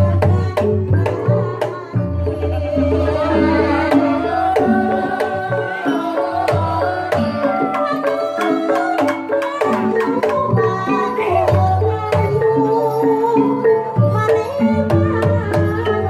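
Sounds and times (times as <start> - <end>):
tuned percussion melody: 0.0 - 16.0
wavering melody line: 0.0 - 16.0.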